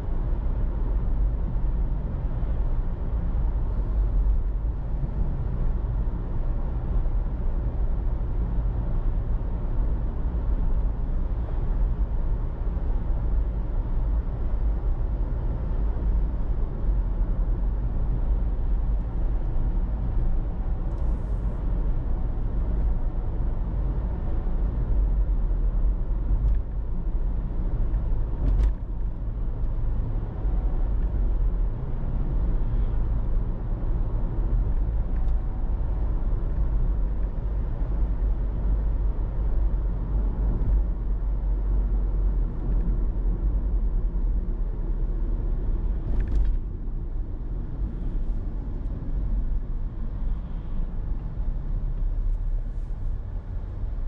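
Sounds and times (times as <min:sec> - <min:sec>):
road and engine rumble: 0:00.0 - 0:54.0.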